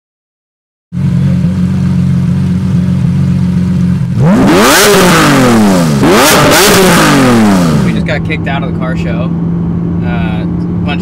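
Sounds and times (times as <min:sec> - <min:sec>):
car engine idling and revving: 0:01.0 - 0:11.0.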